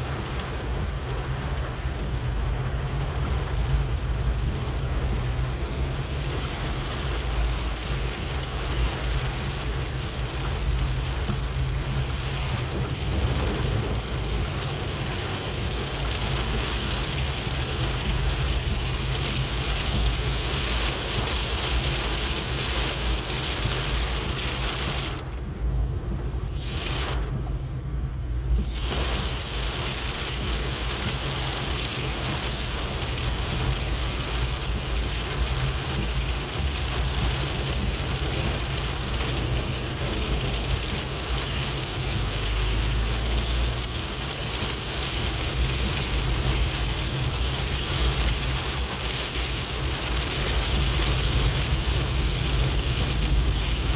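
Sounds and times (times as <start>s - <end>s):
constant low rumble: 0.0s - 53.9s
heavy rain: 0.0s - 53.9s.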